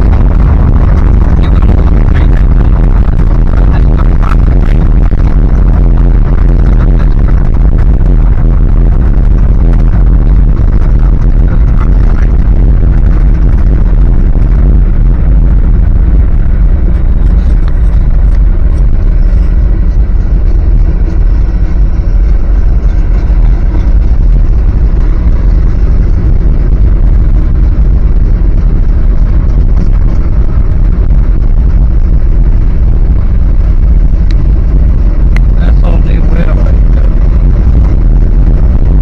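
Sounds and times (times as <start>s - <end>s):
road noise: 0.0s - 39.0s
truck engine rumble: 0.0s - 39.0s.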